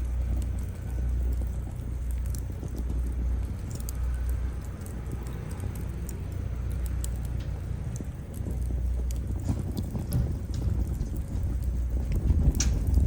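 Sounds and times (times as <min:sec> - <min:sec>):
burning logs crackling and popping: 0:00.0 - 0:13.0
low rumble of flames: 0:00.0 - 0:13.0.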